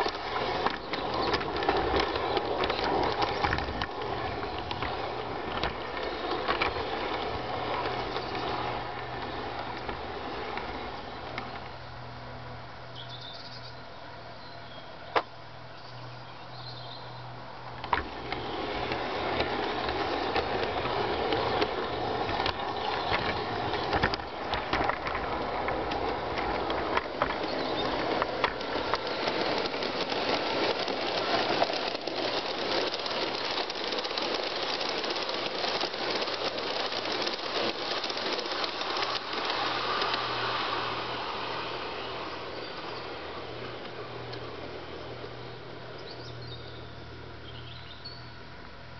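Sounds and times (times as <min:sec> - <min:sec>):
short clicks of train wheels: 0:00.0 - 0:11.8, 0:17.7 - 0:45.4
model train rolling rattle: 0:00.0 - 0:12.2, 0:17.5 - 0:46.8.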